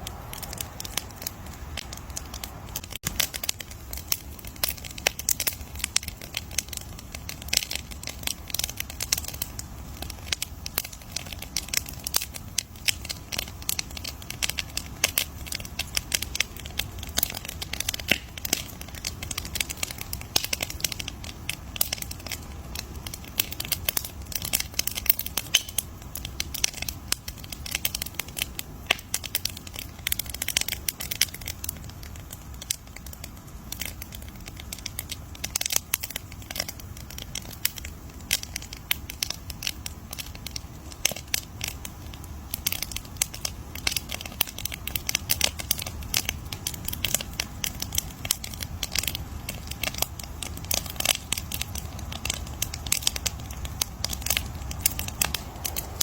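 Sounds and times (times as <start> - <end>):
low steady rumble: 0.0 - 56.0
wood fire crackling: 0.0 - 56.0.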